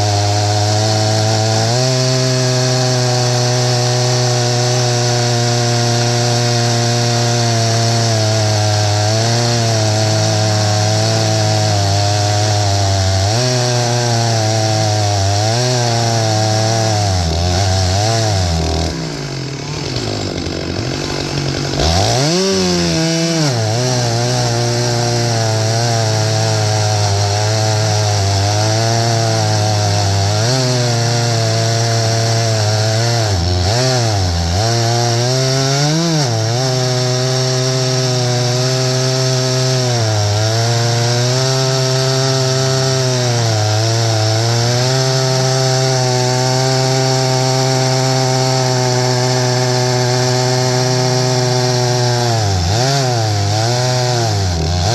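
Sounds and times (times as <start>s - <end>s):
chainsaw cutting through log: 0.0s - 54.9s.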